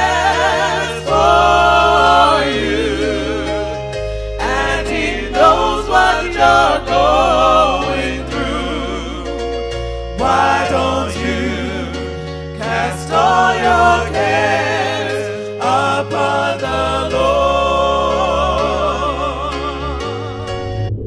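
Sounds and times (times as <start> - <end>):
voices singing gospel: 0.0 - 20.4
sustained bass line: 0.0 - 21.0.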